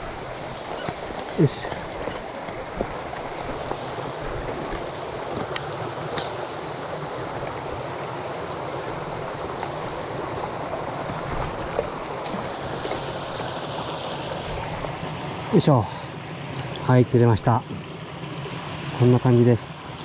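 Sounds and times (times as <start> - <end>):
creek flowing over stones: 0.0 - 20.0.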